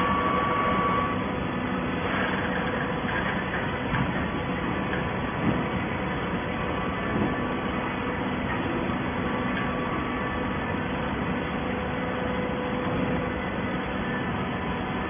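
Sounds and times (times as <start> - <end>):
baling machine drone: 0.0 - 15.0
faint hum tones: 0.0 - 15.0.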